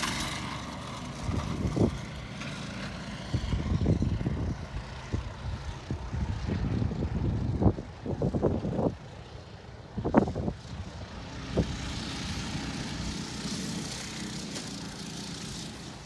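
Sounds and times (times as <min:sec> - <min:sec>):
small engines droning: 0:00.0 - 0:16.0.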